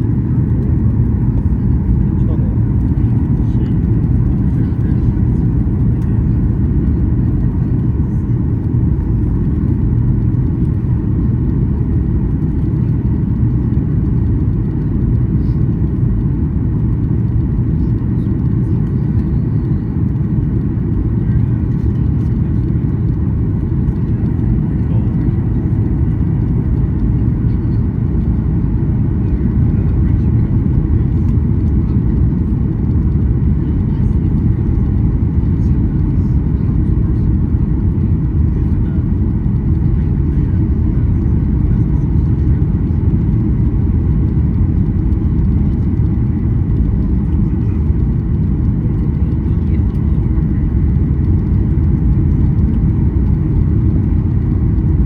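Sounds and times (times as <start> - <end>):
airplane cabin engine and airflow noise: 0.0 - 55.0.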